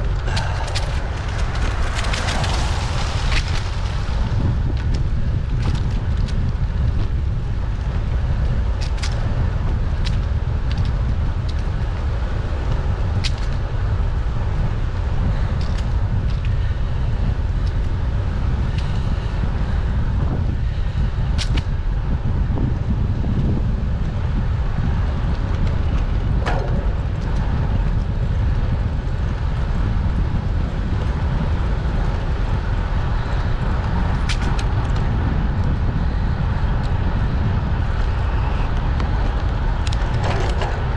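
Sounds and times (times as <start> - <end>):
bicycle clicks and rattles: 0.0 - 40.9
wind rumble on microphone: 0.0 - 40.9.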